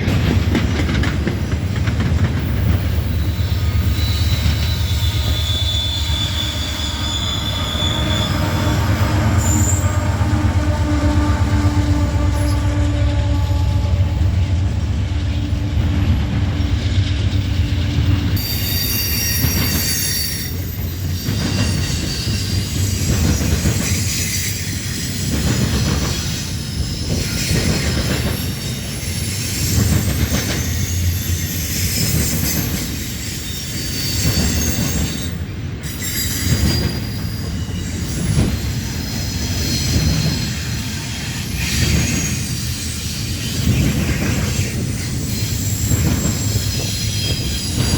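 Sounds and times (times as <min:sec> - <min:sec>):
low train rumble: 0:00.0 - 0:47.9
train wheels squealing on rails: 0:00.0 - 0:47.9.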